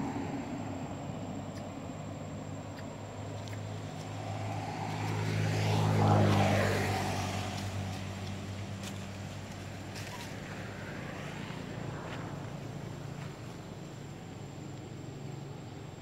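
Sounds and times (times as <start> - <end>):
vehicle engine passing by: 0.0 - 15.6.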